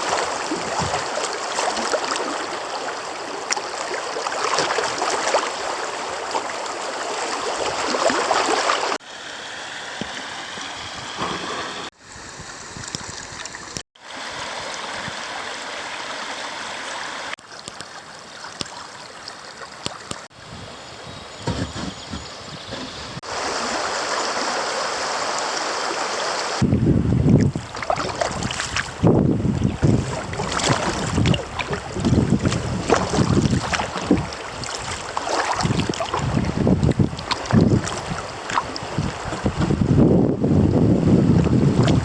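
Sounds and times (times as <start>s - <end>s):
creek water gurgling: 0.0s - 20.4s, 23.2s - 42.0s.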